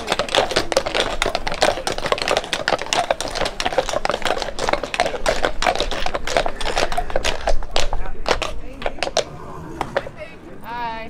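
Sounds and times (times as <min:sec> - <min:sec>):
horse hooves clopping on brick: 0:00.0 - 0:11.0.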